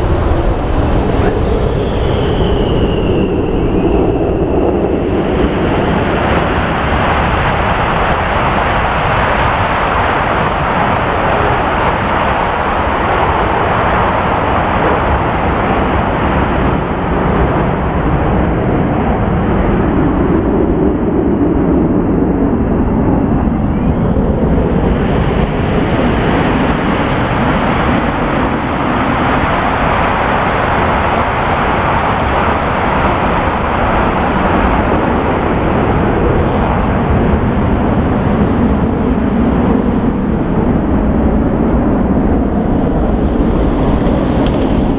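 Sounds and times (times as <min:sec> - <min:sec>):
fighter jet engines roaring: 0:00.0 - 0:44.9.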